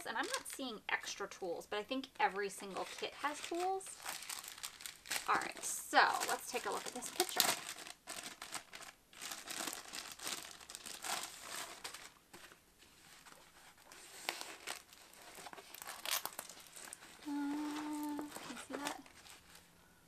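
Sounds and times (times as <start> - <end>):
plastic packaging crinkling: 0.0 - 0.7, 2.4 - 19.8
protective film crackling: 0.0 - 0.7, 2.1 - 19.7.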